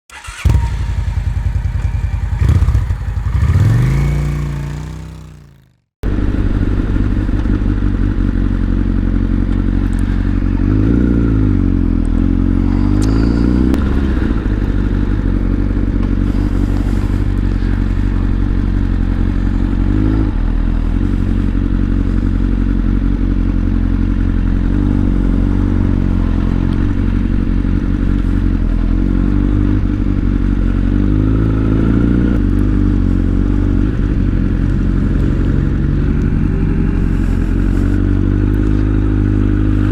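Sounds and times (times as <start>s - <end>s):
motorcycle being ridden: 0.0s - 39.9s.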